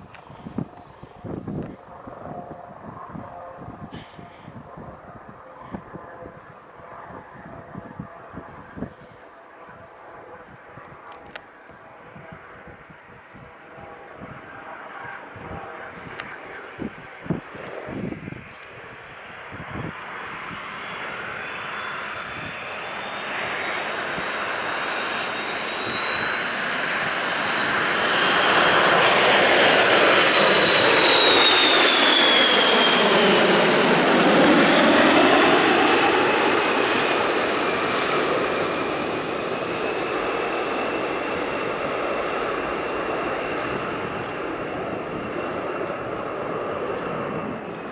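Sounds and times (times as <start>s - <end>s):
high jet engine whine: 0.0s - 47.9s
jet airliner passing overhead: 0.0s - 47.9s.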